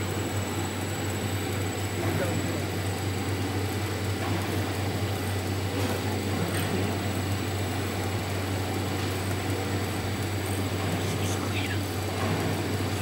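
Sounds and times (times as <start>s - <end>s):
arc welding noise: 0.0s - 13.0s
low electrical hum: 0.0s - 13.0s.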